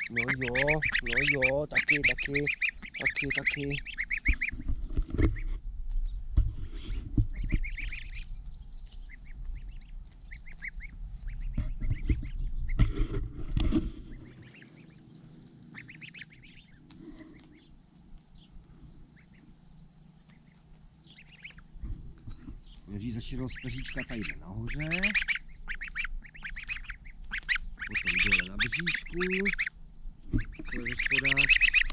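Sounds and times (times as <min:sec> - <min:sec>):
goslings peeping: 0:00.0 - 0:31.9.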